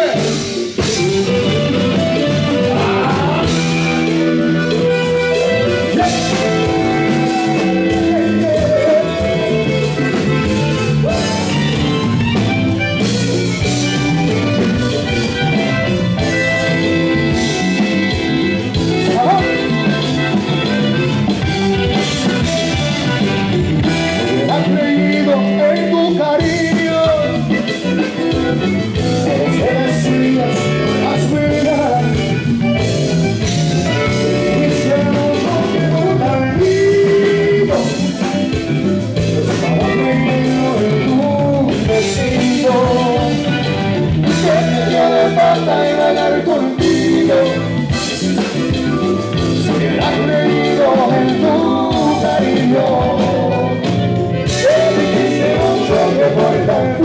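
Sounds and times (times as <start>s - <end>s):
man singing: 0.0s - 12.1s, 16.6s - 20.3s, 23.8s - 32.9s, 33.8s - 38.6s, 39.2s - 57.0s
live band playing: 0.0s - 57.0s
button accordion: 0.1s - 57.0s.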